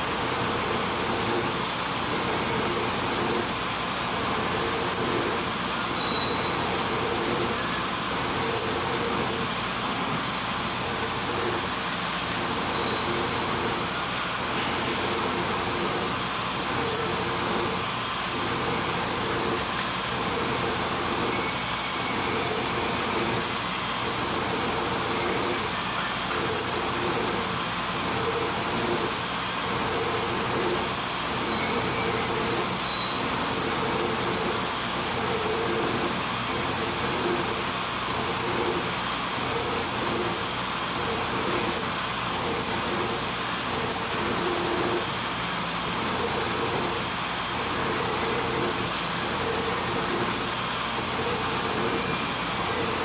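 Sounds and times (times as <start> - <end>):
milling machine cutting metal: 0.0 - 53.0.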